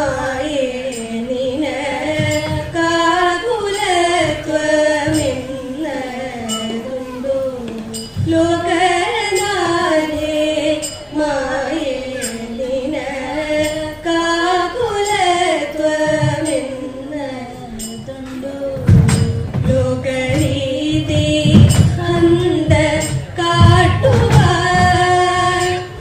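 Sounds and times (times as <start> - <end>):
group of women singing: 0.0 - 26.0.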